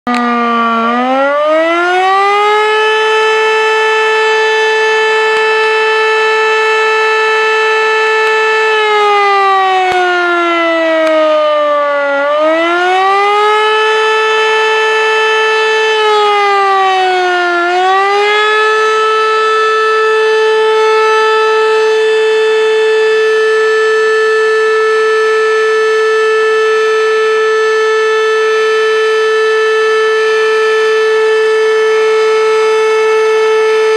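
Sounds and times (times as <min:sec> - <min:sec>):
fire siren wailing: 0:00.0 - 0:33.9.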